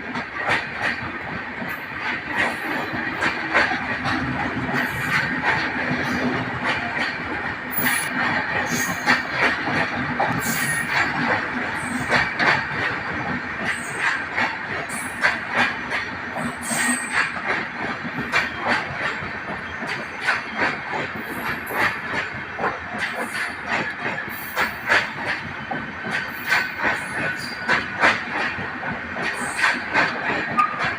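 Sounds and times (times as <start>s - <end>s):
train rumbling on track: 0.0s - 30.9s
wheels clattering over rail joints: 0.2s - 30.9s.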